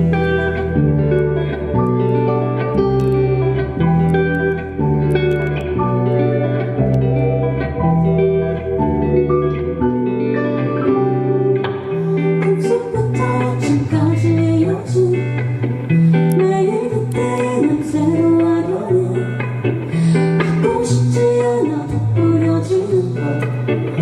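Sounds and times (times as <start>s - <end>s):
low bass line: 0.0s - 21.3s
rock band playing live: 0.0s - 24.0s.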